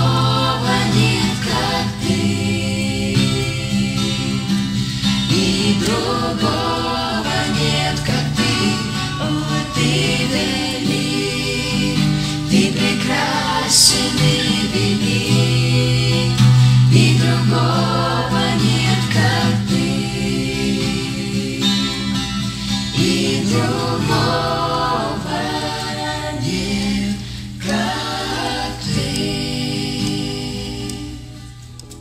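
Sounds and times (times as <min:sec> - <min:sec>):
voices singing worship song: 0:00.0 - 0:32.0.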